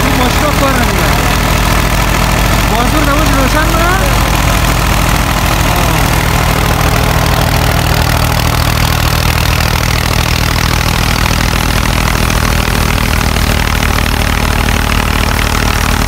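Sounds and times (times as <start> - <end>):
tractor engine hum: 0.0 - 16.0.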